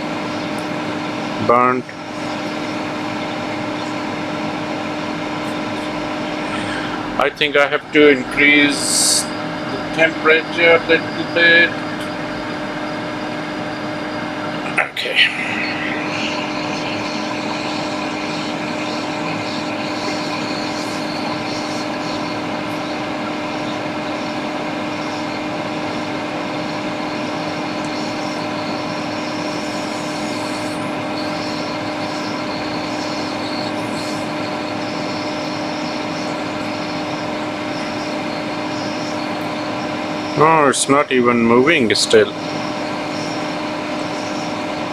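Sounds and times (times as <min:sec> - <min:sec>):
constant hum: 0:00.0 - 0:44.9
fume extractor fan: 0:00.0 - 0:44.9
hot-air station blowing: 0:00.0 - 0:44.9.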